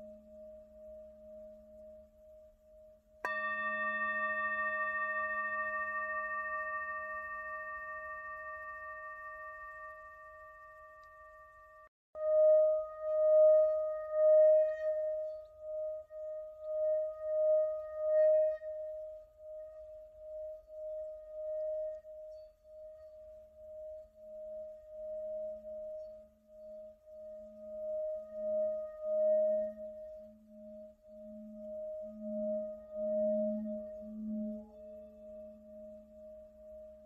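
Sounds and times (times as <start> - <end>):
singing bowl ringing: 0.0 - 19.6, 23.6 - 37.0
low singing bowl tone: 0.0 - 37.0.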